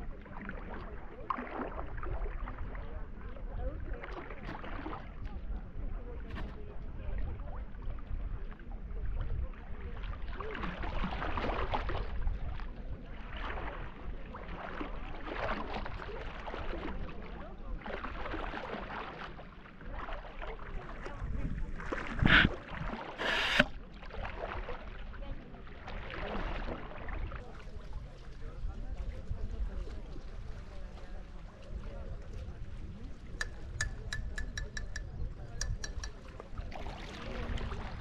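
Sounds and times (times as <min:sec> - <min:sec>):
water sloshing and lapping: 0:00.0 - 0:38.0.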